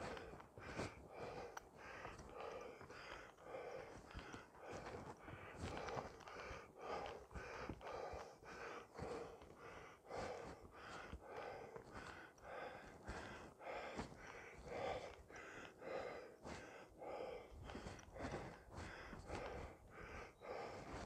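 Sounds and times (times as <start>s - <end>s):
person breathing hard: 0.0s - 21.0s.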